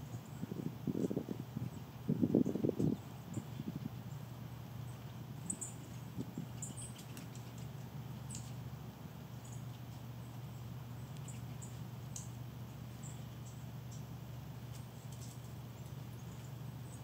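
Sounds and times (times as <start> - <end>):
songbirds high call notes: 0.0 - 17.0
steady low hum: 0.0 - 17.0.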